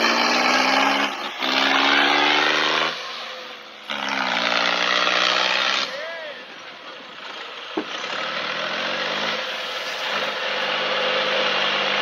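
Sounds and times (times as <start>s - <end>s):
tractor diesel engine at high revs: 0.0s - 12.0s.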